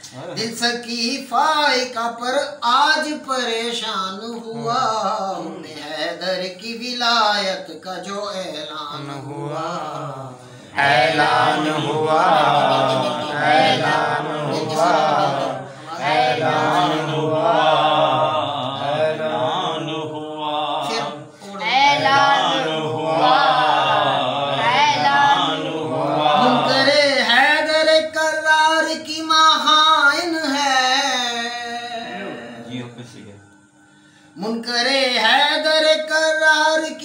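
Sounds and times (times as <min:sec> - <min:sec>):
man chanting a devotional poem: 0:00.0 - 0:22.7, 0:24.6 - 0:33.2, 0:34.4 - 0:37.0.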